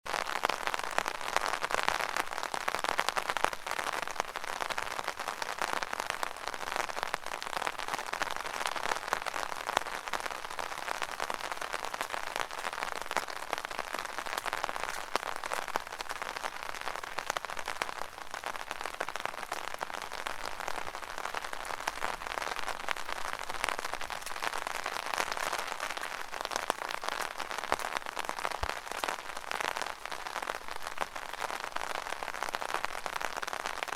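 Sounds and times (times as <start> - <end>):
rain on an umbrella: 0.0 - 33.9.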